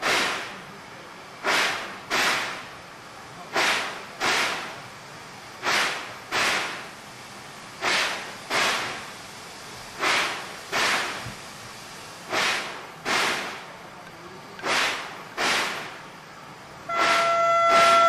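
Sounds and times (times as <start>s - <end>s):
steady hiss: 0.0s - 18.0s
steam locomotive chuffs: 0.0s - 18.0s.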